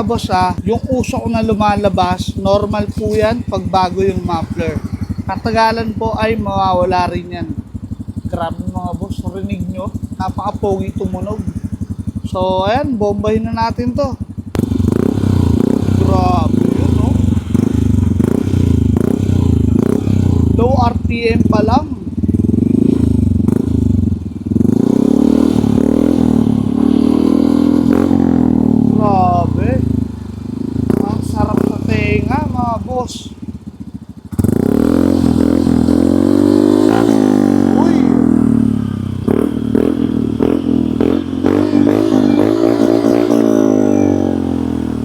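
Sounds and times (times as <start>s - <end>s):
scooter engine revving: 0.0s - 45.0s.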